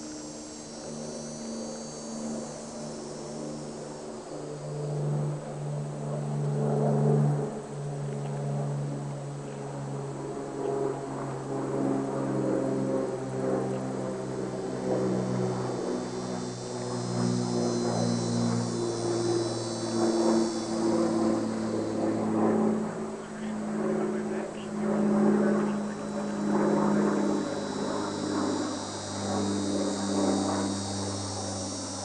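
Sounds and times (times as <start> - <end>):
distant engine droning: 0.0 - 32.0.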